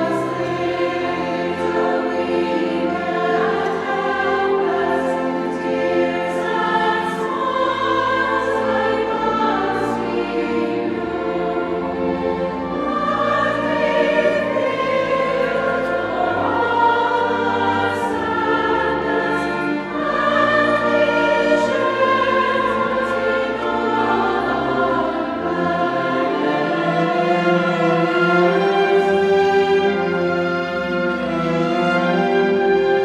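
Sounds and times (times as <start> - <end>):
choir singing sacred music: 0.0 - 33.0
instrumental accompaniment: 0.0 - 33.0.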